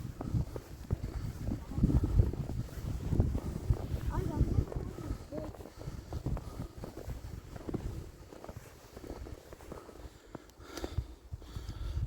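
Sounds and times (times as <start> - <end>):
wind buffeting microphone: 0.0 - 10.0, 10.9 - 12.0.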